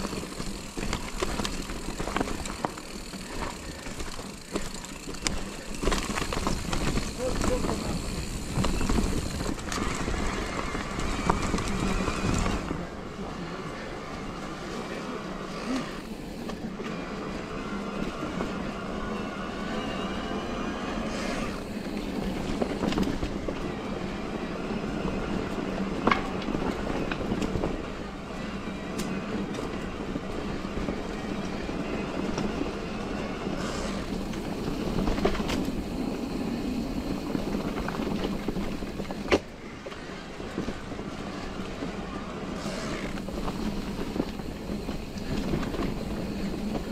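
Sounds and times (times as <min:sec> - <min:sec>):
electric bike motor hum: 0:00.0 - 0:12.8, 0:15.4 - 0:46.9
bike rattling over bumpy ground: 0:00.0 - 0:20.5, 0:21.2 - 0:46.9.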